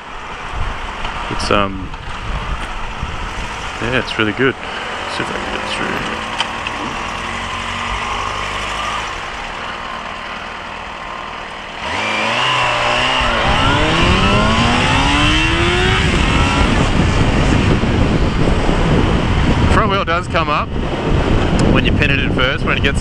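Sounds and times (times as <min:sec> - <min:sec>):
wind rush: 0:00.0 - 0:09.6, 0:11.9 - 0:23.0
motorcycle engine accelerating: 0:00.0 - 0:20.1.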